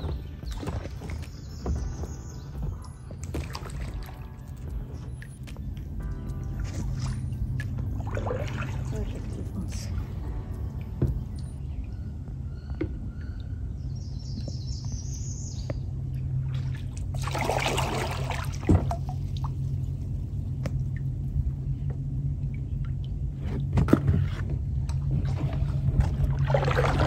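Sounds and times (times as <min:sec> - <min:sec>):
paddle splashing and dripping: 0:00.0 - 0:13.5, 0:14.2 - 0:27.0
low steady rumble: 0:00.0 - 0:27.0.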